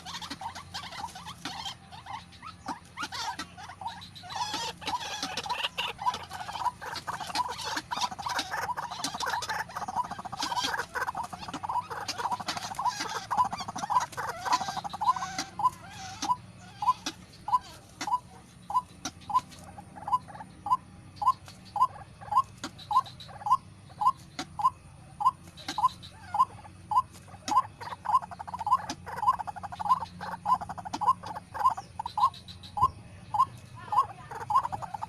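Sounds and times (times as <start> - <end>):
waterhens calling: 0.0 - 35.0.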